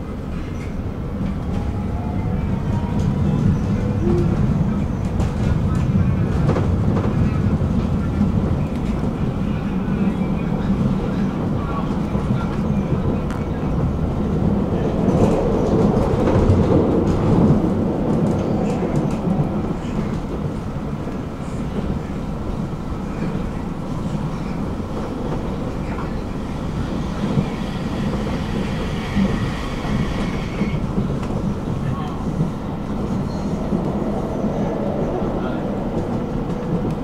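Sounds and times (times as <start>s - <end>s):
tram wheels rumbling on rail: 0.0s - 37.0s.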